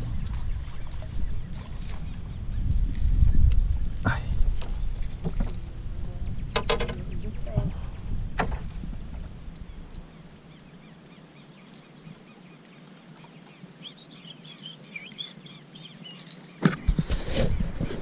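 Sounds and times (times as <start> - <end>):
birds chirping: 0.0 - 16.7
faint high hum: 0.0 - 18.0.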